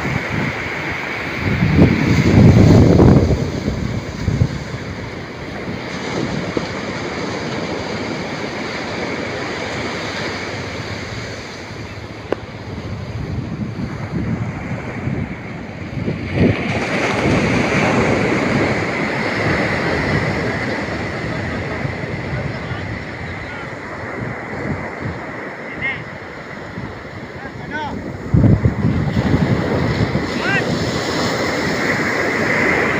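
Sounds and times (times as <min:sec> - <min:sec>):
ocean surf washing onto beach: 0:00.0 - 0:32.9
wind buffeting microphone: 0:00.0 - 0:32.9.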